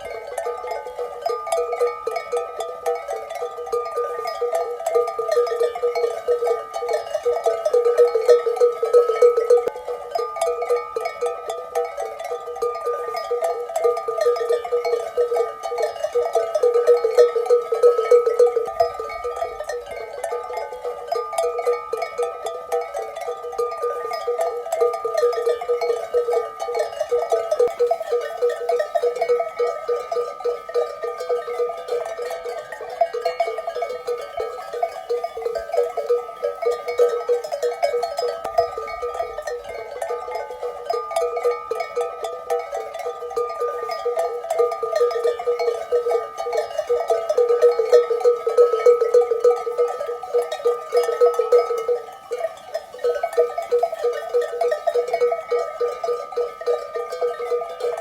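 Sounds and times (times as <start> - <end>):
livestock bells clanking: 0.0 - 58.0.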